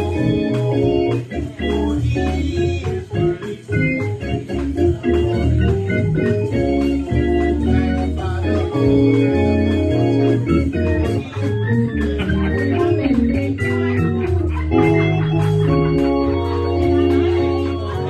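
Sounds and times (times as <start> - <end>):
organ chords: 0.0 - 18.0.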